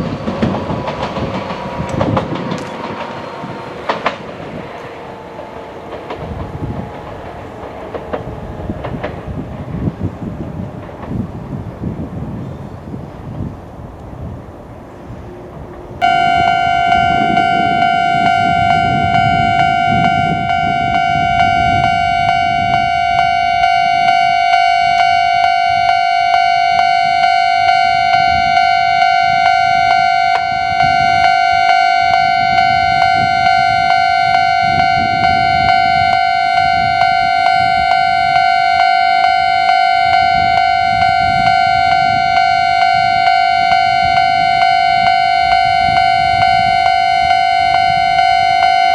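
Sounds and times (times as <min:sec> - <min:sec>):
level crossing warning bell: 0:00.0 - 0:11.1, 0:16.0 - 0:48.9.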